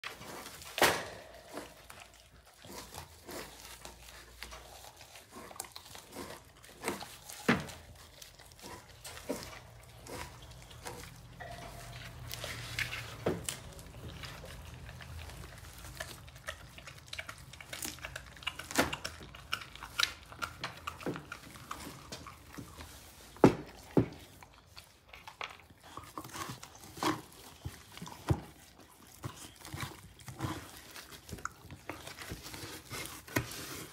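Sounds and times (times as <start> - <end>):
dogs gnawing a bone: 0.0 - 33.9.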